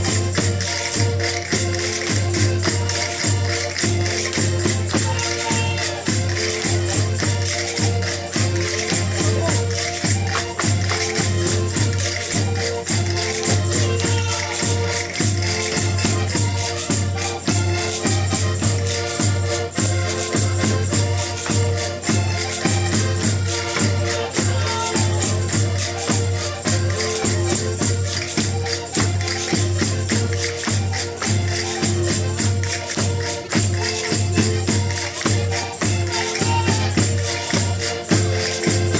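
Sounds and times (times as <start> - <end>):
folk group playing: 0.0 - 38.9
quick percussion beat: 0.0 - 38.9.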